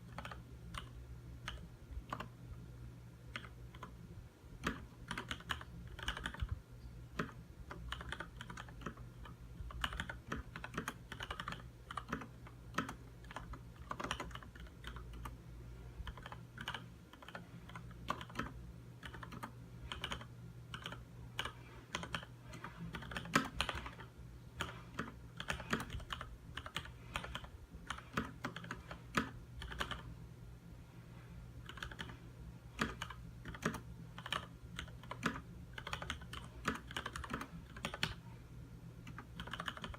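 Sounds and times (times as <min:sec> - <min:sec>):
mechanical keyboard typing: 0:00.0 - 0:02.4, 0:03.3 - 0:04.0, 0:04.6 - 0:15.3, 0:16.0 - 0:30.1, 0:31.6 - 0:38.2, 0:39.0 - 0:39.9
faint low hum: 0:00.0 - 0:39.9.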